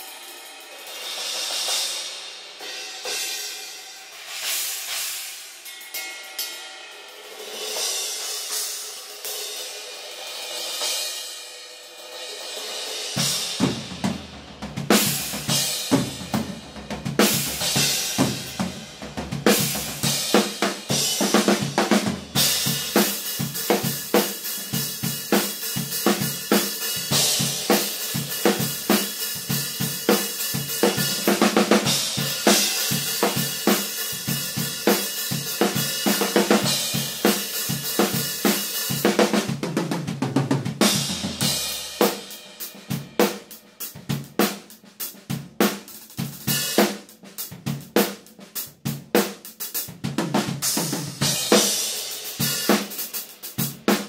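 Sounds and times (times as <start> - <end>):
drum solo: 0.0 - 54.0.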